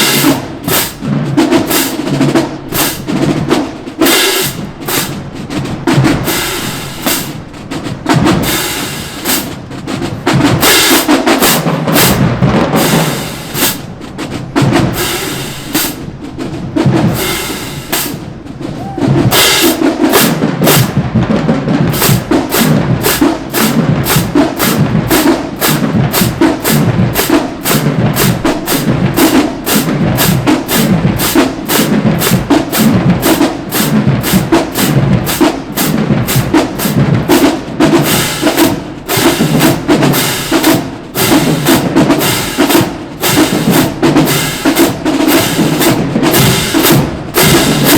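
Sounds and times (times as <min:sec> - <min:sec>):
drumline snare and bass drums: 0:00.0 - 0:47.9.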